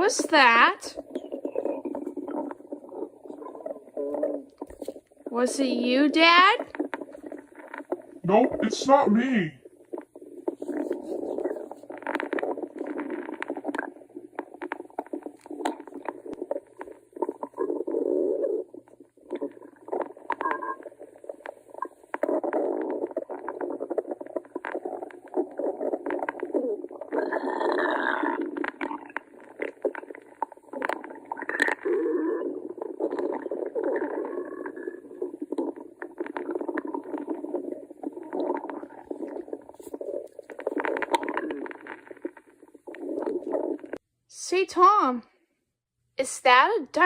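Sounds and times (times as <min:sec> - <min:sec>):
stomach growling: 0:00.0 - 0:44.0.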